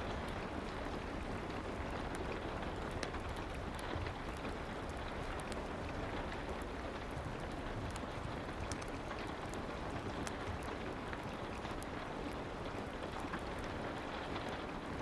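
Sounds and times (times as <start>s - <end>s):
small crackles and ticks: 0.0s - 15.0s
steady soft rain: 0.0s - 15.0s.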